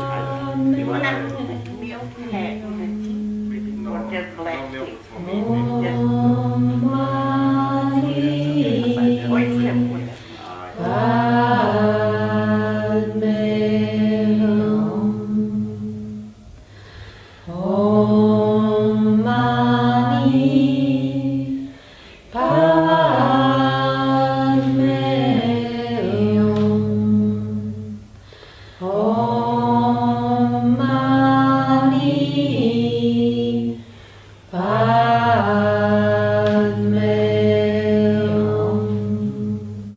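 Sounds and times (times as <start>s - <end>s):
person chanting a mantra: 0.0s - 4.3s, 5.1s - 16.2s, 17.4s - 27.9s, 28.8s - 33.8s, 34.5s - 39.8s.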